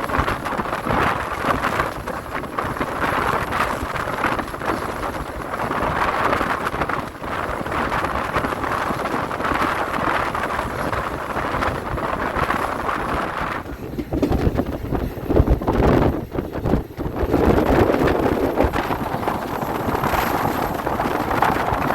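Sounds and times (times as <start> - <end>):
moving train running noise: 0.0 - 21.9
wind on microphone: 0.0 - 21.9.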